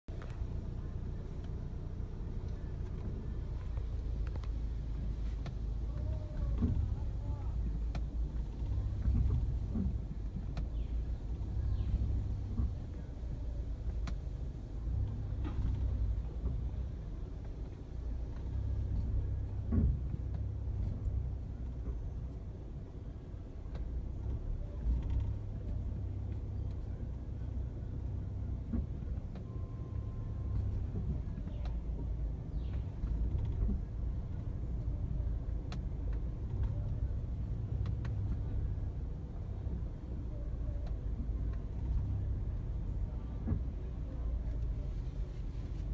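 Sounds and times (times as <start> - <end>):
car engine rumbling: 0.0 - 45.9.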